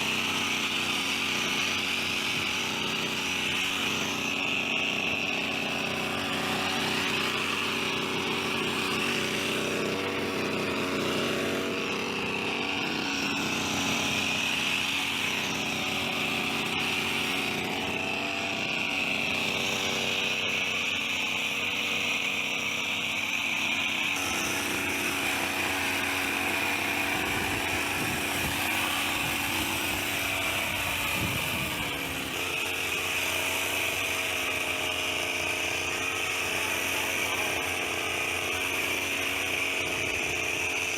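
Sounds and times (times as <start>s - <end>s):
hedge trimmer engine buzzing: 0.0s - 40.9s.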